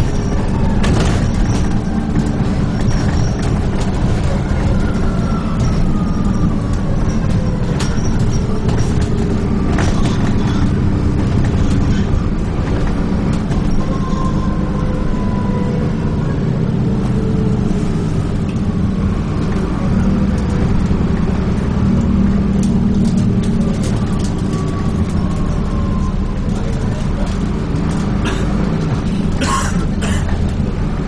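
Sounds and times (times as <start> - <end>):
bus engine running: 0.0 - 31.0.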